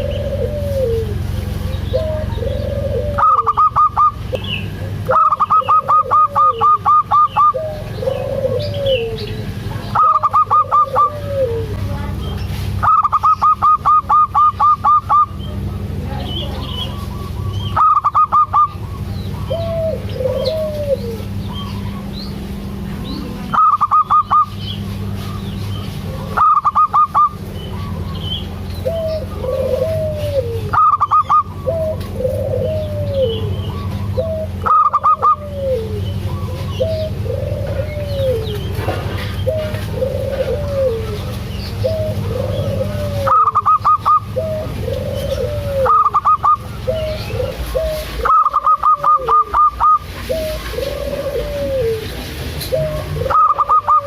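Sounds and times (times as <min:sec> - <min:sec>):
doves calling: 0:00.0 - 0:54.0.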